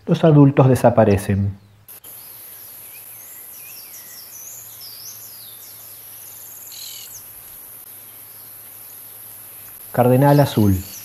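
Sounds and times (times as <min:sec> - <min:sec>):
songbird singing: 0:00.0 - 0:11.0
steady high-pitched hiss: 0:00.0 - 0:11.0.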